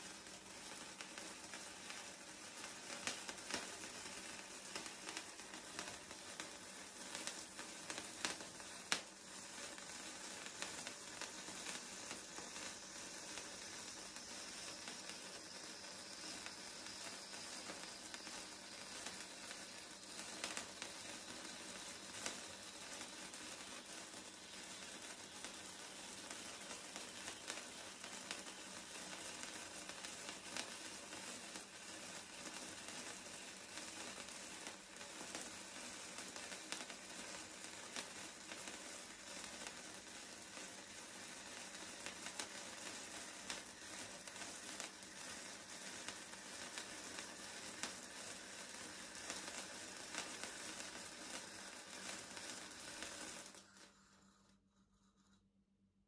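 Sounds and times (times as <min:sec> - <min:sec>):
firework fountain hissing sizzle: 0:00.0 - 0:55.3.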